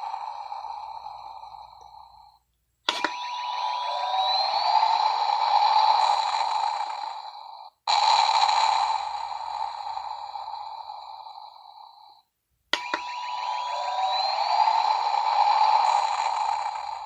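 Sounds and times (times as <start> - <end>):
spaceship sound effect from toy speaker: 0.0 - 12.2, 12.8 - 17.0.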